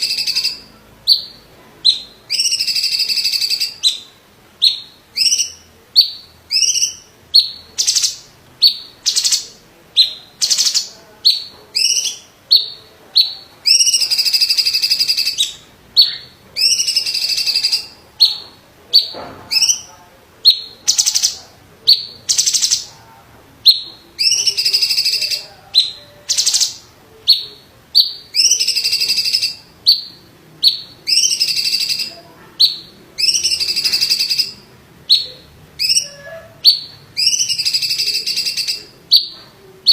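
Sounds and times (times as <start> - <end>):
bird singing shrill notes: 0.0 - 18.4, 23.6 - 39.9
harsh buzzy bird phrases: 0.0 - 39.9.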